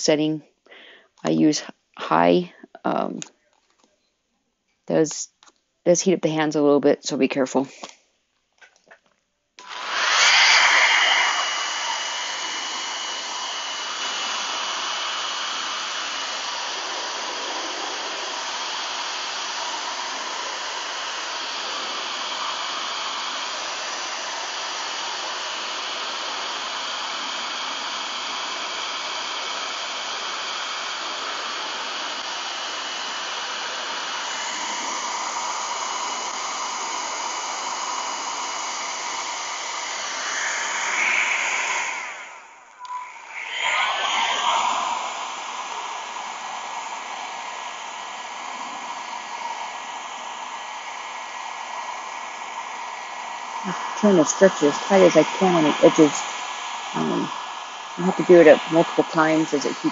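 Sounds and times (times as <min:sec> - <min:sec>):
blow dryer running: 0:09.6 - 0:59.9.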